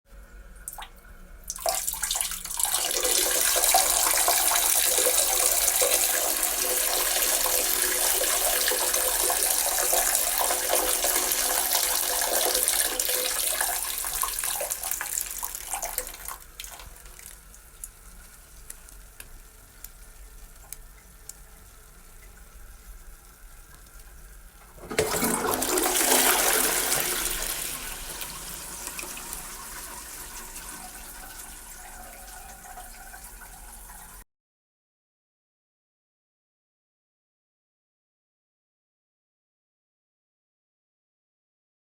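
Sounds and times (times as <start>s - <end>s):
toilet water rush: 0.6s - 34.2s
urine stream into toilet: 0.6s - 34.2s.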